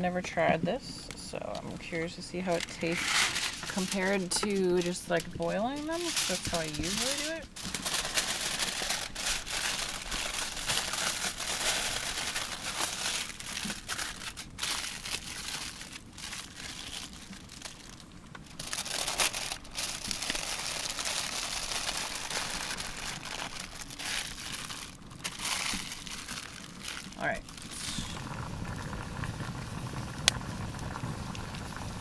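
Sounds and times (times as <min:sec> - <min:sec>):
aluminium foil crinkling: 0:02.5 - 0:28.2.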